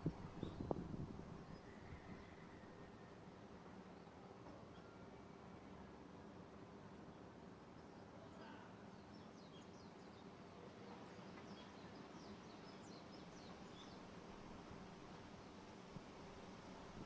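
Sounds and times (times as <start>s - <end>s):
low outdoor background noise: 0.0s - 17.0s.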